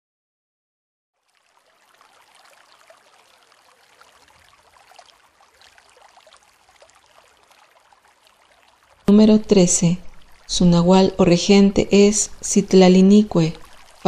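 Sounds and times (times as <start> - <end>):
water trickling: 1.2 - 14.0.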